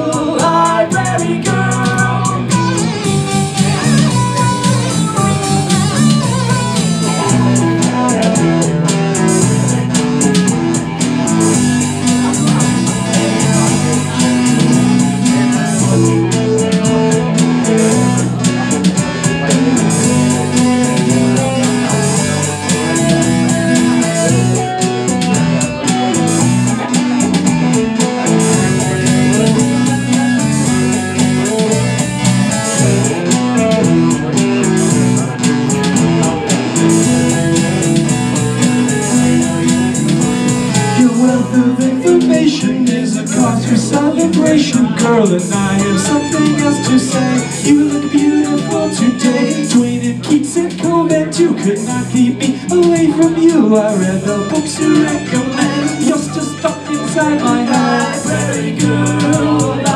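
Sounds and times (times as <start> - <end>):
bass guitar: 0.0 - 59.9
electric guitar: 0.0 - 59.9
steady drum beat: 0.0 - 59.9
synthesizer: 0.0 - 59.9.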